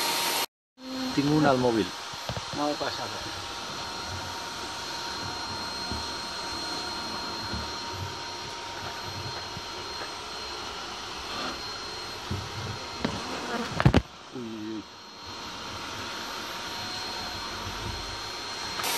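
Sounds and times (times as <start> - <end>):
vacuum hissing and whining: 0.0 - 18.9
bees buzzing: 3.4 - 18.9.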